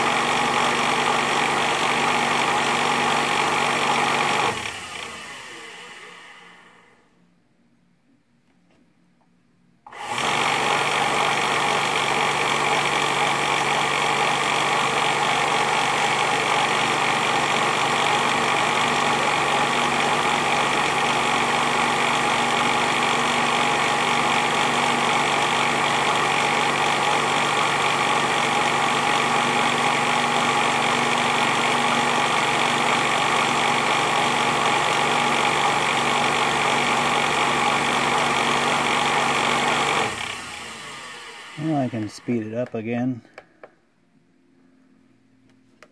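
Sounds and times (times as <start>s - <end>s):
bench lathe running: 0.0s - 6.8s, 9.9s - 42.7s.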